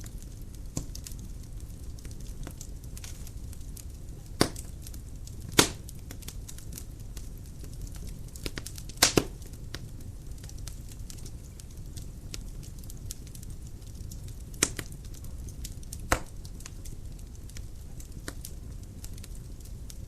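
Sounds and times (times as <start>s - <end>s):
firewood crackling: 0.0s - 20.0s
low flame noise: 0.0s - 20.0s
sharp fire pops: 0.0s - 20.0s.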